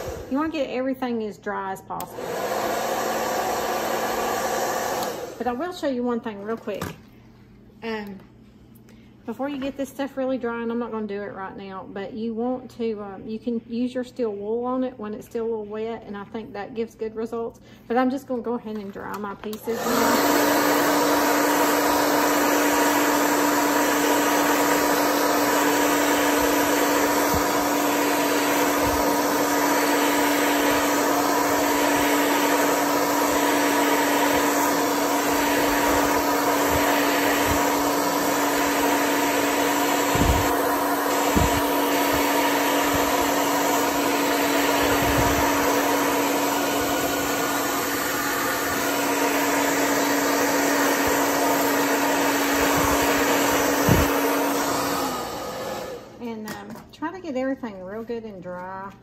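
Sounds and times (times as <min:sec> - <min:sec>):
hair dryer blowing: 0:00.0 - 0:07.1, 0:08.8 - 0:13.1, 0:13.8 - 0:56.8.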